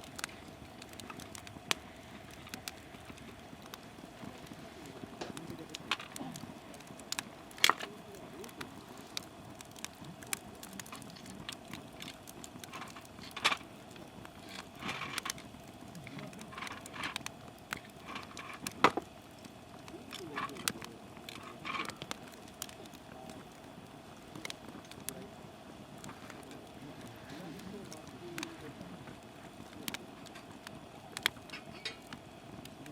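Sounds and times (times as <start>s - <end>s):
firewood crackling and popping: 0.0s - 32.9s.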